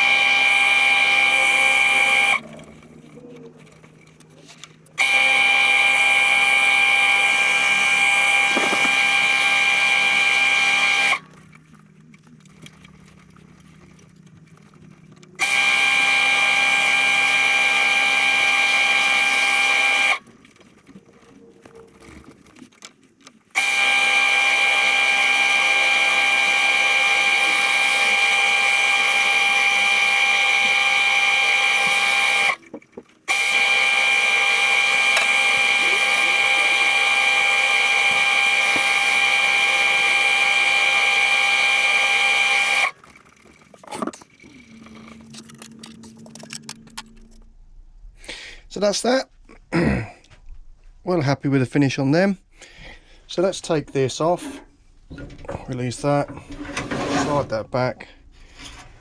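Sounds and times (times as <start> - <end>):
lathe motor whining: 0.0 - 47.5.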